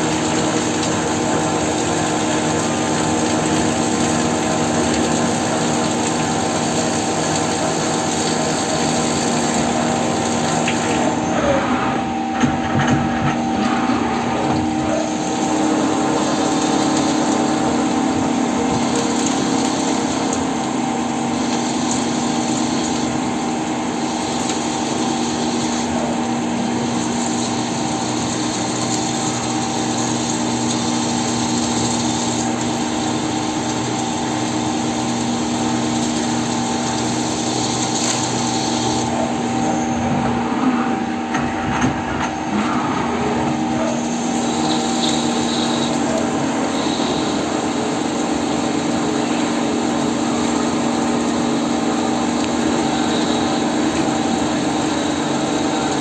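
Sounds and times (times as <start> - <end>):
hiss of cutting and coolant: 0.0 - 56.0
lathe machine hum: 0.0 - 56.0.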